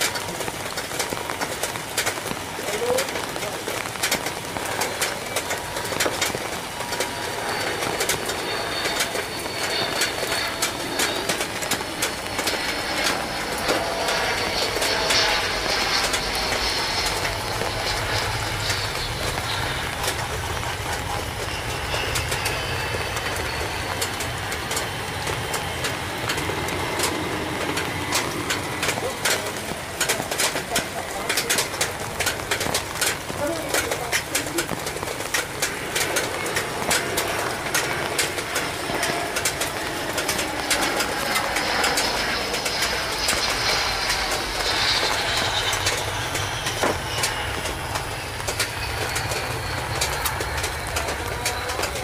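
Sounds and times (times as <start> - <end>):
jet engine whine: 0.0 - 52.0
low rumble on runway: 0.0 - 52.0.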